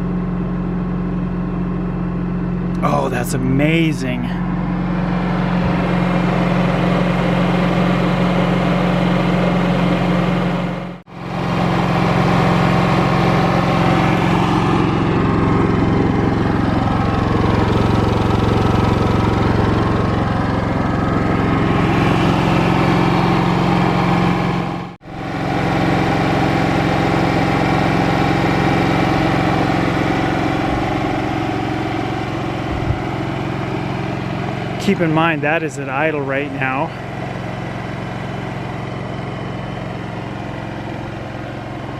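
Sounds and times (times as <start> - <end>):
generator idling: 0.0 - 41.9.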